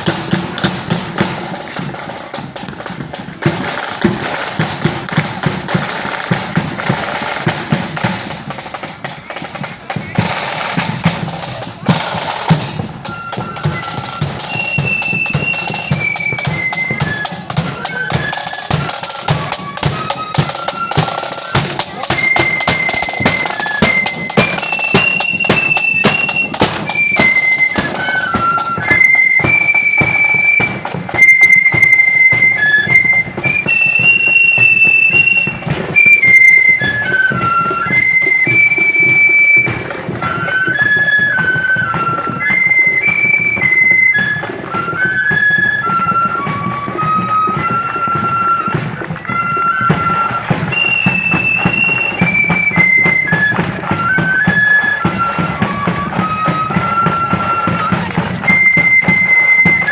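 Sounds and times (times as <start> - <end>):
flutes playing melody: 0.0 - 59.9
snare drum rolls: 0.0 - 59.9.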